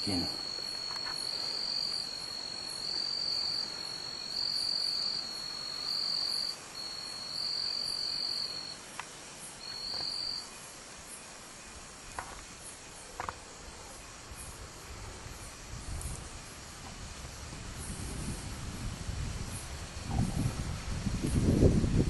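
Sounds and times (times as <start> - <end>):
cricket trilling: 0.0 - 18.8.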